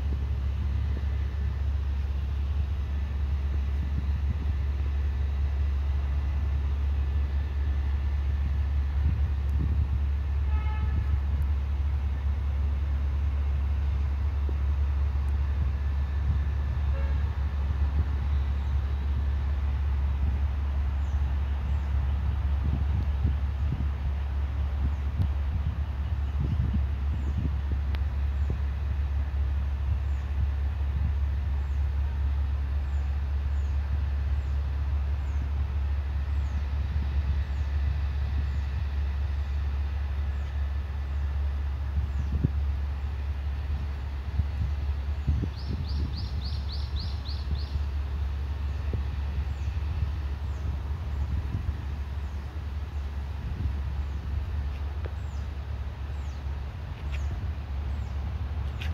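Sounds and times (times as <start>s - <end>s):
low outdoor rumble: 0.0s - 58.9s.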